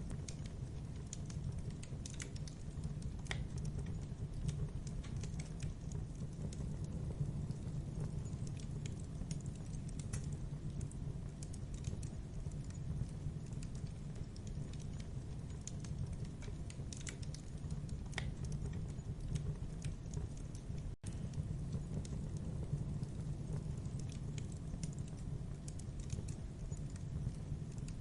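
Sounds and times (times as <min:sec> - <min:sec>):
campfire crackling and popping: 0:00.0 - 0:28.0
low rumble of flames: 0:00.0 - 0:28.0.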